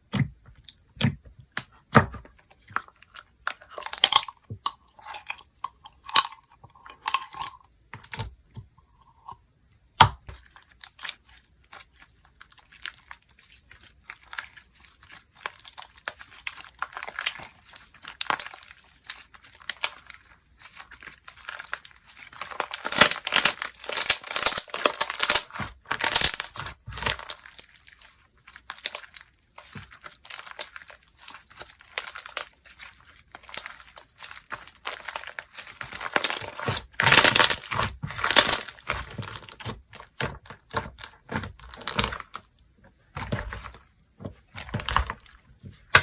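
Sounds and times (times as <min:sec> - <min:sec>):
hands squishing slime: 0:00.0 - 0:09.3, 0:10.0 - 0:46.0.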